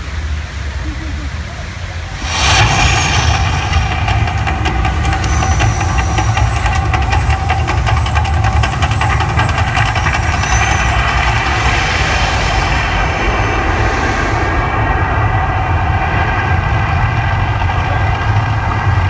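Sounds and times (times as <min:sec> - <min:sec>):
deep rumble of flames: 0:00.0 - 0:19.0
hissing and crackling flames: 0:01.6 - 0:19.0.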